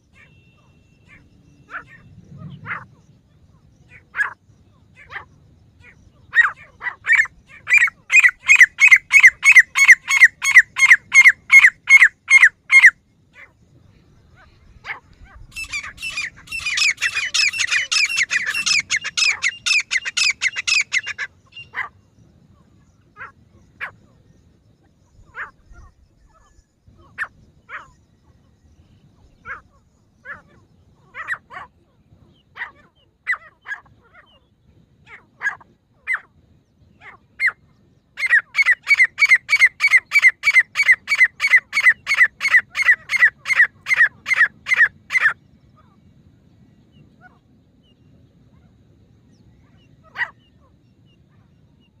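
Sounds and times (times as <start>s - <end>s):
francolin calling: 0.0s - 52.0s.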